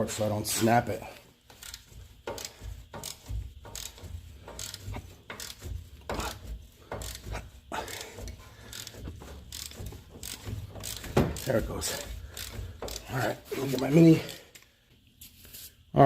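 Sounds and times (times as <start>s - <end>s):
ratchet wrench clicking: 1.4s - 14.7s.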